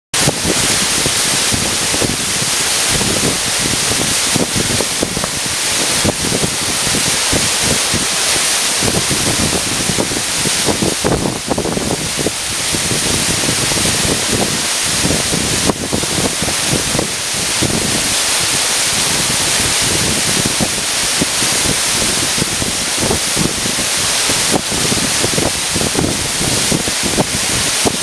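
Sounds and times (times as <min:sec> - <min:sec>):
waterfall rushing: 0:00.2 - 0:28.0.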